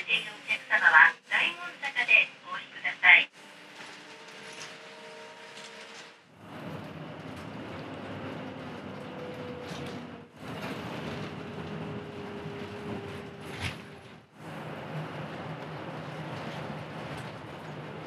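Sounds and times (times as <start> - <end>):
bus engine and road noise: 0.0 - 18.0.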